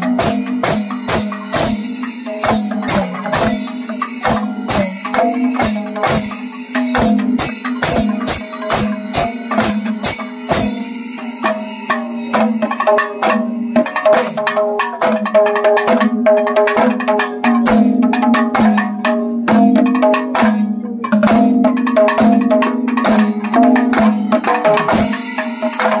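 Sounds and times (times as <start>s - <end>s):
hand drums with deep tuned tone: 0.0s - 26.0s.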